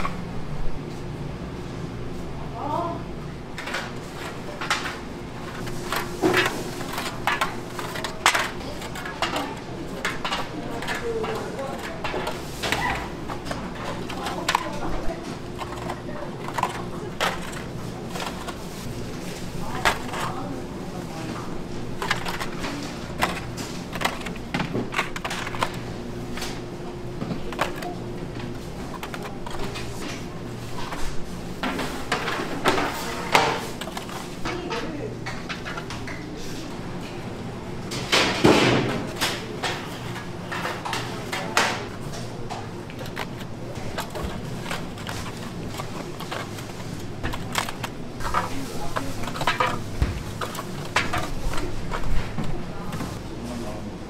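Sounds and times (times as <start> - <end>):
kitchen background noise: 0.0 - 54.0
steady low hum: 0.0 - 54.0
foil trays crinkling clicks: 3.6 - 36.2, 39.1 - 53.8.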